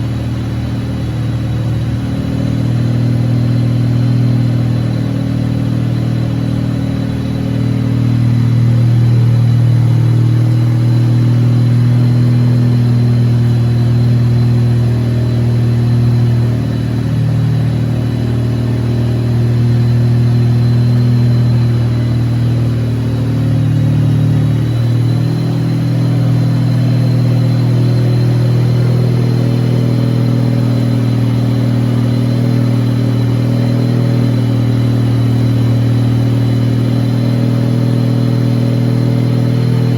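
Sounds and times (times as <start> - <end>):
rotary engine running steadily: 0.0 - 39.9.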